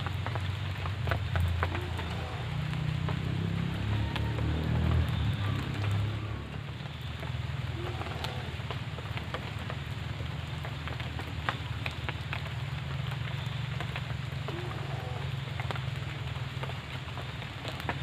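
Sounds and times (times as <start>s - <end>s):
sharp drips and taps: 0.0s - 18.0s
steady rain falling: 0.0s - 18.0s.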